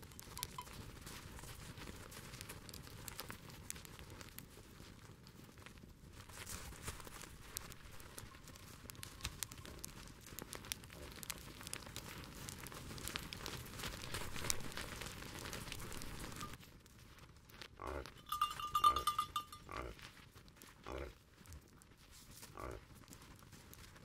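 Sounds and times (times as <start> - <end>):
hooves crunching on snow: 0.0 - 24.0
sharp clicks from reindeer feet: 0.1 - 16.7, 17.5 - 24.0.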